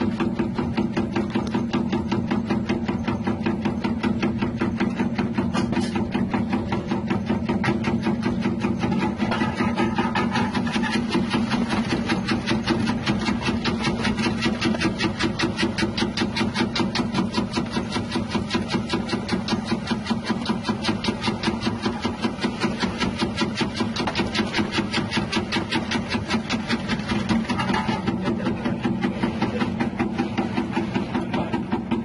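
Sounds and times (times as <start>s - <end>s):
rotating blades cutting: 0.0s - 32.0s.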